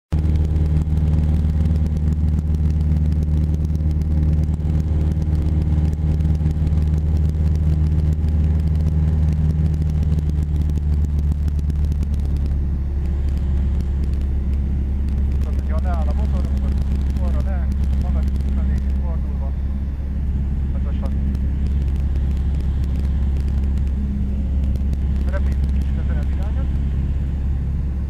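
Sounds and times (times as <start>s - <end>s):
airplane engine drone: 0.1s - 28.0s.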